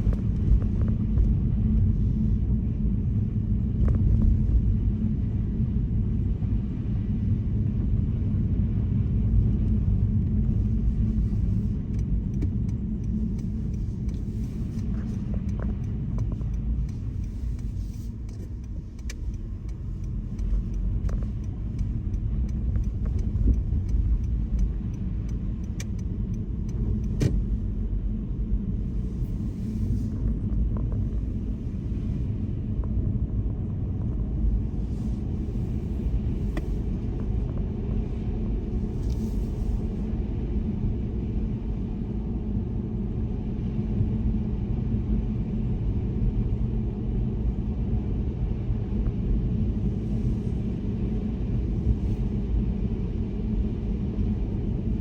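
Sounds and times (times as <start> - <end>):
car tyre and engine rumble: 0.0 - 55.0.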